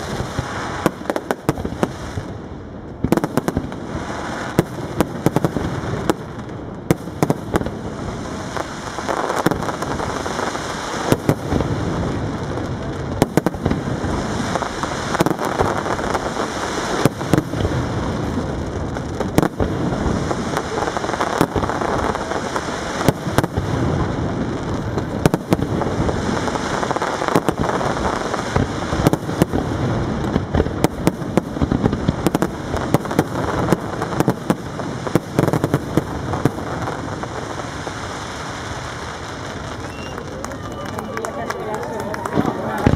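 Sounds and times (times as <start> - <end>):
fireworks crackling: 0.0 - 42.9
fireworks sharp bangs: 0.0 - 42.9.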